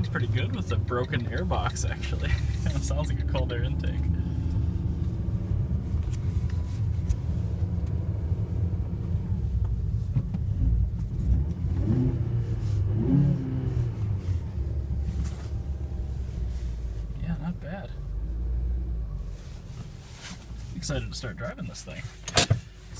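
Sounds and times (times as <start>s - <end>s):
car engine rumbling: 0.0s - 22.9s.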